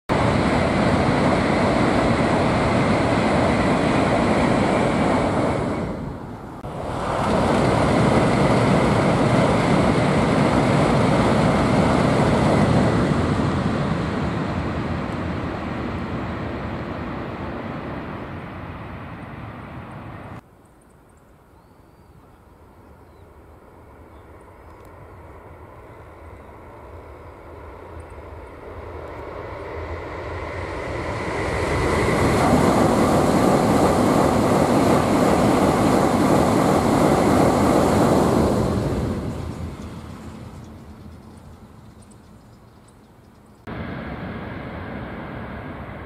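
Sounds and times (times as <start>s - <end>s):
train rumbling over bridge: 0.1s - 20.4s, 22.5s - 46.0s.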